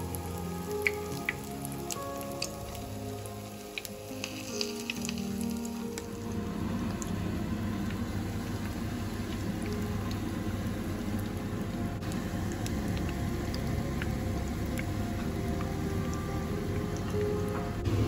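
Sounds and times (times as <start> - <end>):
oil popping: 0.0 - 18.0
patties sizzling in hot oil: 0.0 - 18.0.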